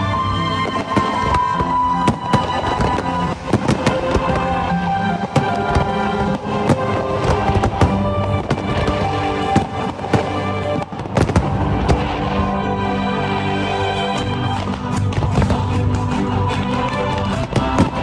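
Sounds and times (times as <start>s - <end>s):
fireworks bangs and crackles: 0.0s - 13.0s, 14.1s - 18.0s
loud music: 0.0s - 18.0s.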